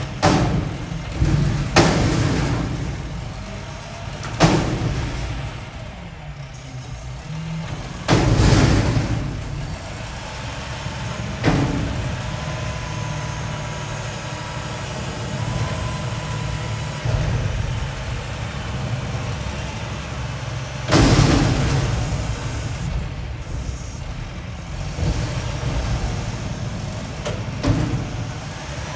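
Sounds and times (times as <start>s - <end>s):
dumpster banging: 0.0s - 28.9s
garbage truck engine running: 0.0s - 28.9s.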